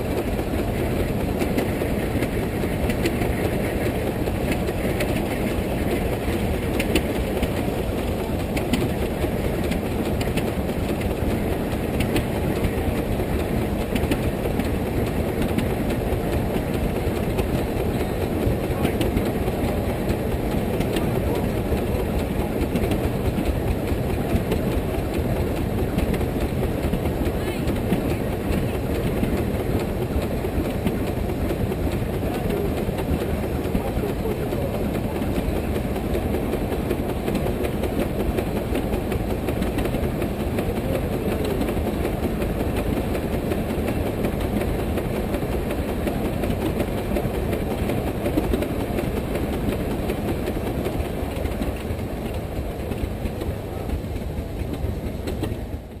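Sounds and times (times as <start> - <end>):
steam engine exhaust chuffing: 0.0 - 56.0.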